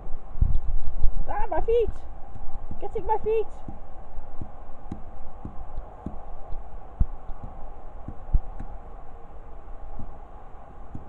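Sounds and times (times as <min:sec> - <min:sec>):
soft low thumps: 0:00.0 - 0:11.0
steady background hiss: 0:00.0 - 0:11.0.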